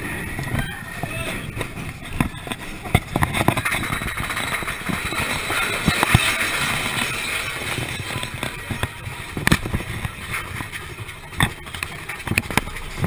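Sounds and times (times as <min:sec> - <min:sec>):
roller coaster cars rattling on track: 0:00.0 - 0:13.0
knocks and clacks: 0:01.5 - 0:13.0.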